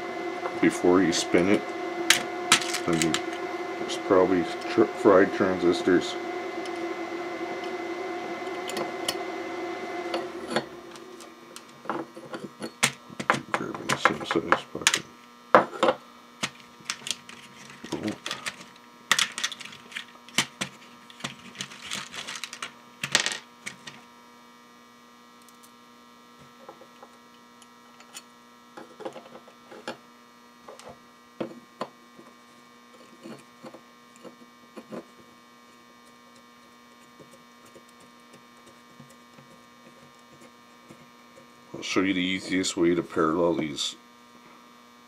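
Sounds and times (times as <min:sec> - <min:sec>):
steady electrical hum: 0:00.0 - 0:45.0.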